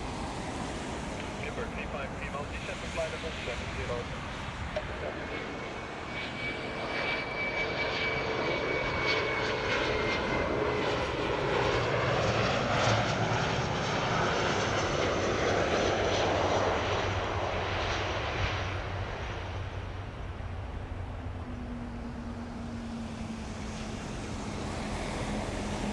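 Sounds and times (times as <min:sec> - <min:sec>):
jet airliner passing by: 0:00.0 - 0:25.9.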